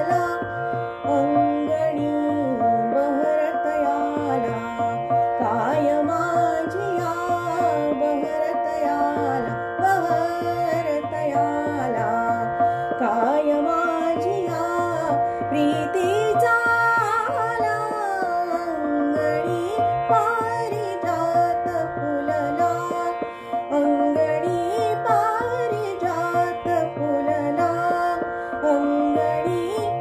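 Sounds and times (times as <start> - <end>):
tabla rhythm: 0.0 - 30.0
woman singing: 0.0 - 30.0.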